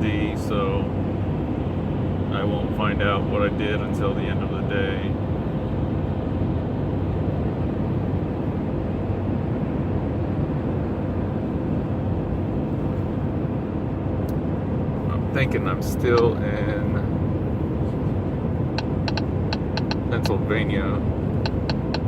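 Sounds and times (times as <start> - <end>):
faint steady hum: 0.0 - 22.0
road and engine rumble: 0.0 - 22.0.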